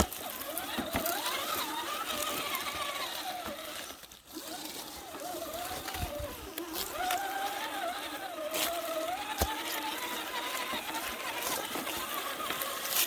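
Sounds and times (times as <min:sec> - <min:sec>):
toy car motor whining: 0:00.0 - 0:13.0.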